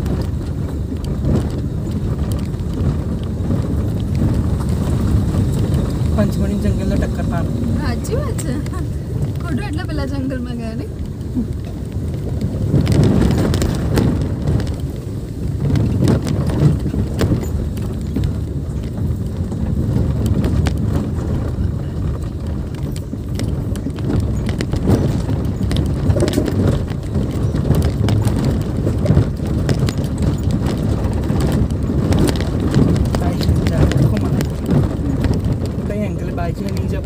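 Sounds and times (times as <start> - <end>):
car rumbling on dirt track: 0.0 - 37.0
gravel knocking under tyres: 0.0 - 37.0.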